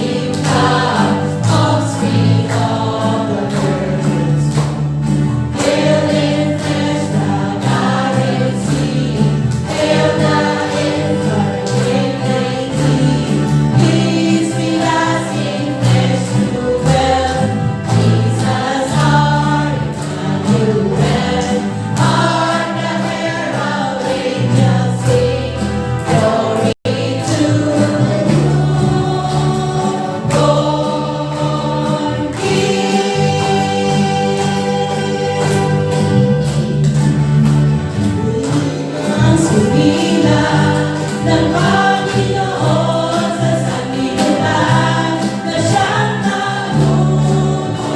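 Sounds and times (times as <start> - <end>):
choir singing a carol: 0.0 - 47.9.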